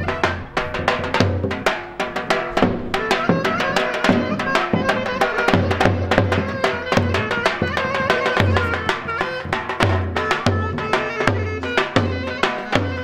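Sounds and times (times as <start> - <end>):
large drum beaten with stick: 0.0 - 13.0
sustained melody line: 0.0 - 13.0.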